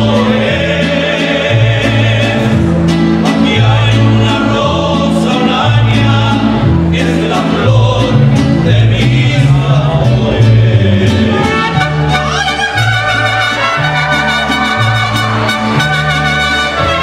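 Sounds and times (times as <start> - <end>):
mariachi band playing: 0.0 - 17.0
plucked bass line: 0.0 - 17.0.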